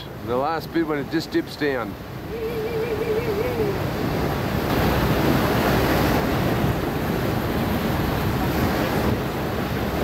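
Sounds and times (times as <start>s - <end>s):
sea wash: 0.0s - 10.0s.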